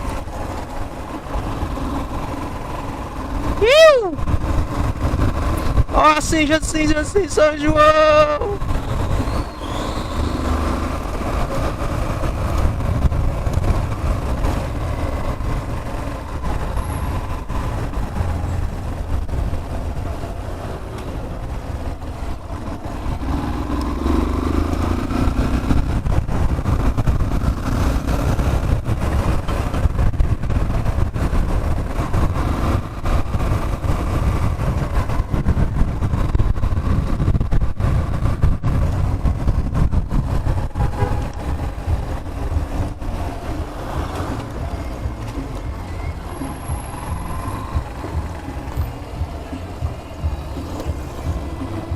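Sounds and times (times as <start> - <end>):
motorcycle engine running: 0.0 - 51.9
road and wind noise: 0.0 - 51.9.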